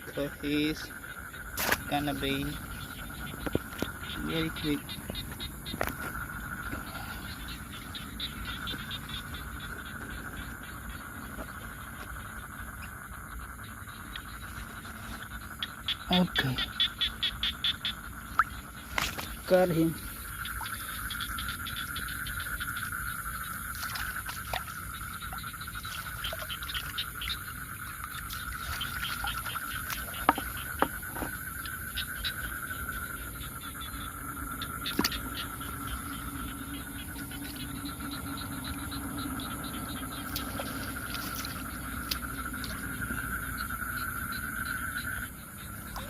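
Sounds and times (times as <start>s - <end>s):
frogs chirping: 0.0s - 46.0s
high-pitched insect drone: 0.0s - 46.0s.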